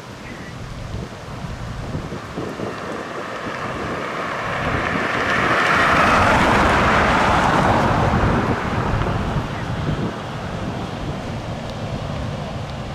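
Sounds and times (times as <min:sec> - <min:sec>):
fire engine approaching: 0:00.0 - 0:12.9
wind noise on microphone: 0:00.0 - 0:12.9.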